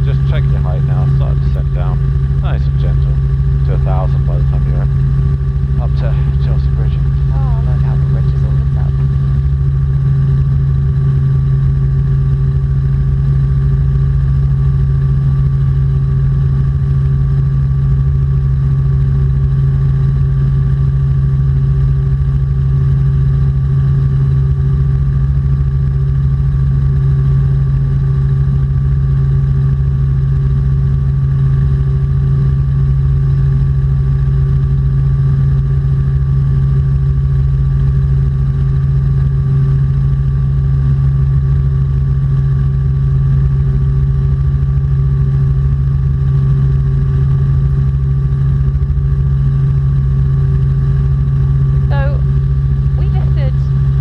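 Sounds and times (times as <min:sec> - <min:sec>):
helicopter drone: 0:00.0 - 0:54.0.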